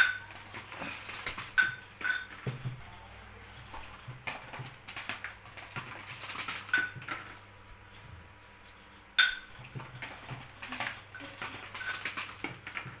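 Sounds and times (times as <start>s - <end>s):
plastic balls clattering in cups: 0.0s - 2.8s, 3.5s - 7.4s, 9.2s - 13.0s.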